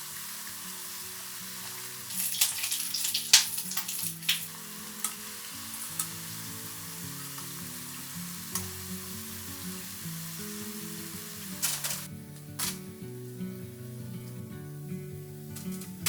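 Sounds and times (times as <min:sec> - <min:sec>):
food sizzling in hot oil: 0:00.0 - 0:14.3
oil crackling: 0:00.0 - 0:16.0.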